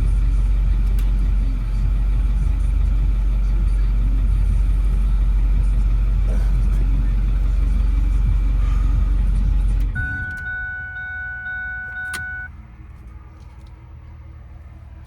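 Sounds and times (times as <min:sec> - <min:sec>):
pulsing dashboard warning chime: 0:00.0 - 0:12.6
diesel engine running: 0:00.0 - 0:15.0.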